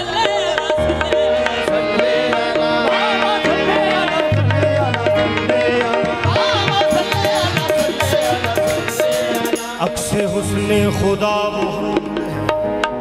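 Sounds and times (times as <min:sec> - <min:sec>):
harmonium melody: 0:00.0 - 0:13.0.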